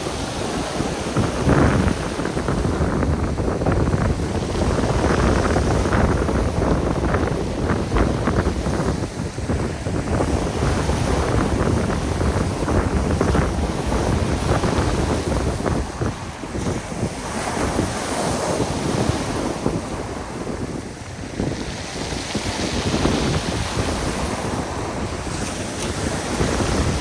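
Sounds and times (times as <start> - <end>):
sea surf breaking: 0.0 - 27.0
wind buffeting microphone: 0.0 - 27.0.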